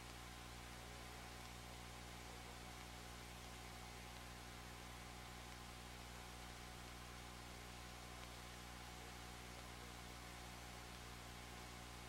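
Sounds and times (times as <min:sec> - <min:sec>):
faint steady hiss: 0:00.0 - 0:12.0
low electrical hum: 0:00.0 - 0:12.0.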